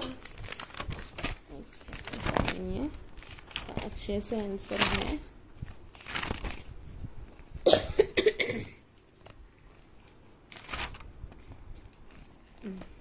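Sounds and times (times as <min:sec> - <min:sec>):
paper rustling: 0:00.0 - 0:07.6, 0:09.1 - 0:13.0.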